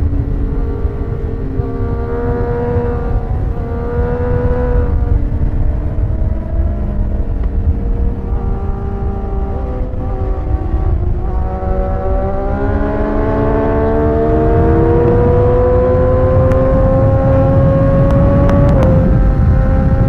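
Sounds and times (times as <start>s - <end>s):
motorcycle engine accelerating: 0.0s - 20.0s
wind rumble on microphone: 0.0s - 20.0s.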